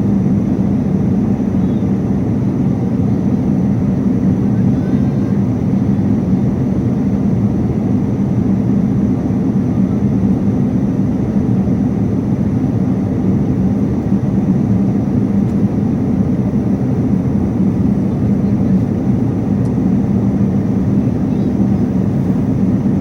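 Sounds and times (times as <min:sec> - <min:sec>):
airliner cabin engine roar: 0:00.0 - 0:23.0.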